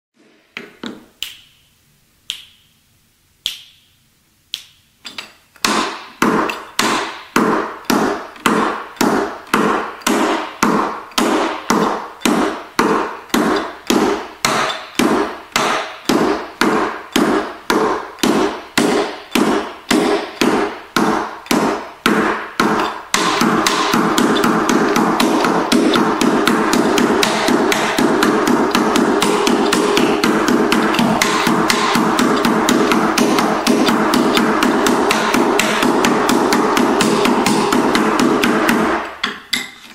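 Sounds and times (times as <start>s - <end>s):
tap shoes on wooden board: 0.6s - 1.1s, 4.6s - 39.4s.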